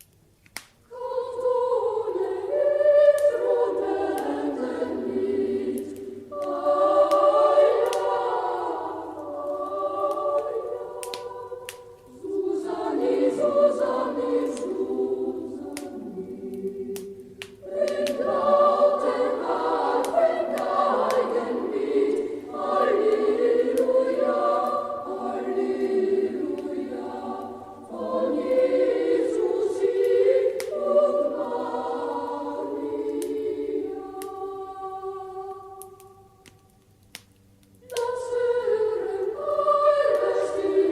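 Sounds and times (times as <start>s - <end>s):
wood fire crackling: 0.0s - 2.5s, 3.1s - 39.4s
choir singing: 0.8s - 36.5s, 37.8s - 40.9s.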